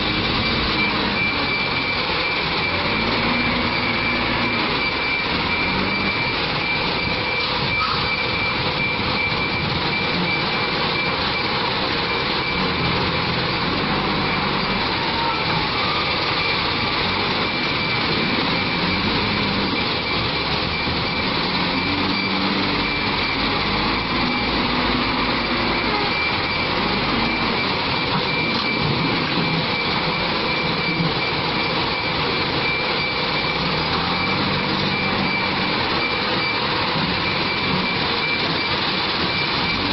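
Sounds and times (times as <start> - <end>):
backhoe diesel engine running hard: 0.0 - 39.9
steady high whine: 0.0 - 39.9.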